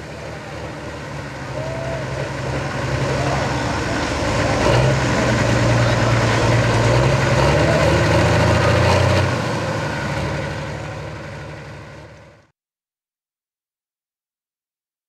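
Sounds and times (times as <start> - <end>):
diesel tractor engine idling: 0.0 - 12.5.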